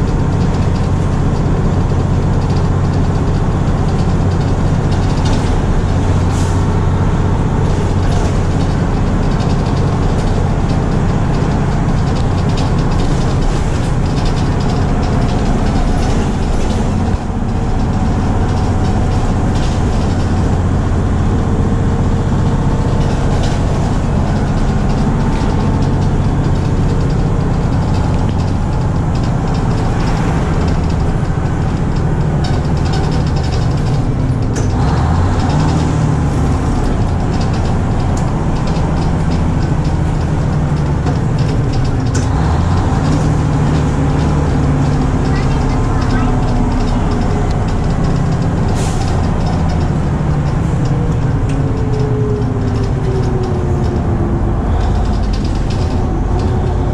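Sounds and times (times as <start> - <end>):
bus engine and road drone: 0.0 - 56.9.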